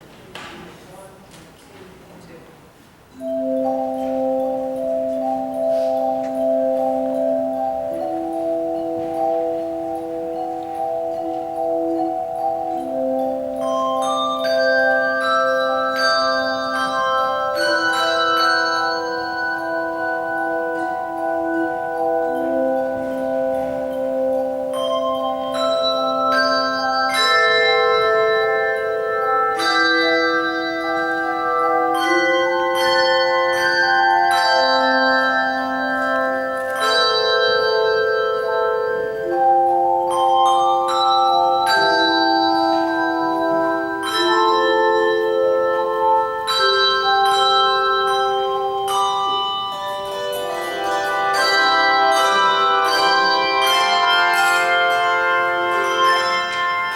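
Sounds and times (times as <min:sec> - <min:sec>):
handbell choir playing chords: 0:03.1 - 0:56.9.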